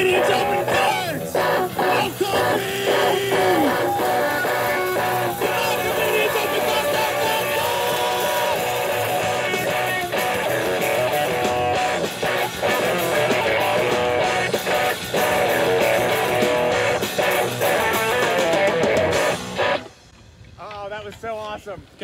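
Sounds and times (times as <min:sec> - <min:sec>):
drum kit: 0:00.0 - 0:19.9
electric guitars strumming: 0:00.0 - 0:20.0.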